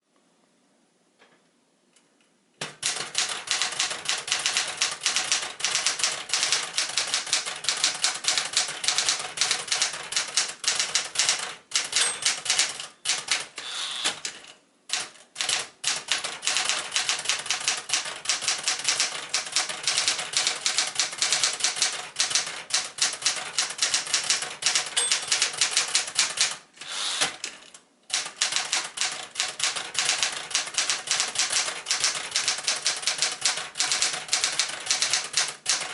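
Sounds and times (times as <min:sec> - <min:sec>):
manual typewriter typing rapidly: 0:02.6 - 0:35.9.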